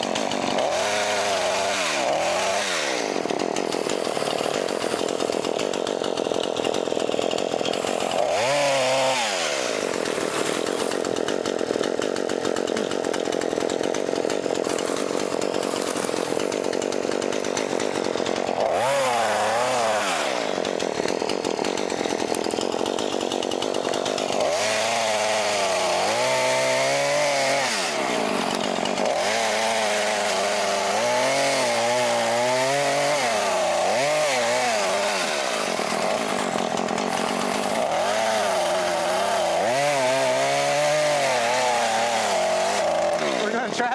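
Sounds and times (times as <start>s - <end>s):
chainsaw cutting tree limbs: 0.0s - 43.9s
chainsaw revving: 0.0s - 43.9s.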